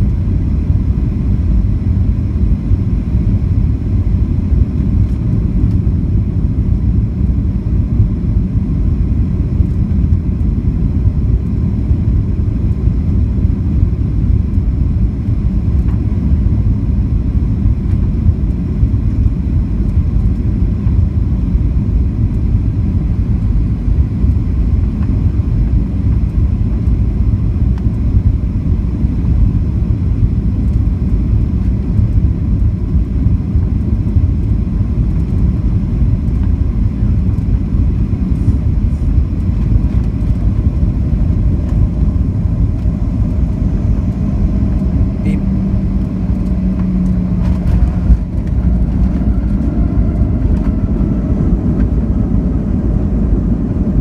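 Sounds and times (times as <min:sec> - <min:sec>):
aircraft cabin engine rumble: 0:00.0 - 0:54.0.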